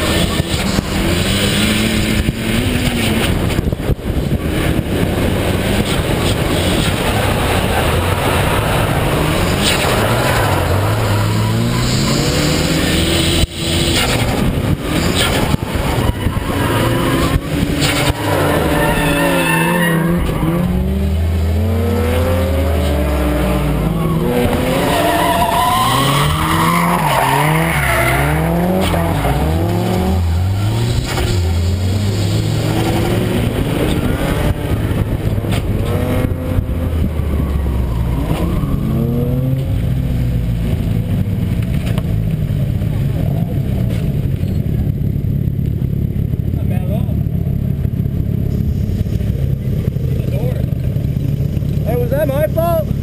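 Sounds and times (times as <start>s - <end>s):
car engine revving: 0.0s - 53.0s
tyres skidding and squealing: 0.0s - 53.0s.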